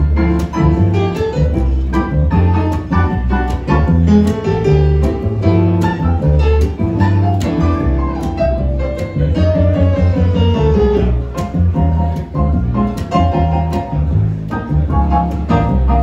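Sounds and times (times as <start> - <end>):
plucked double bass: 0.0 - 16.0
plucked guitar-like notes: 0.0 - 16.0.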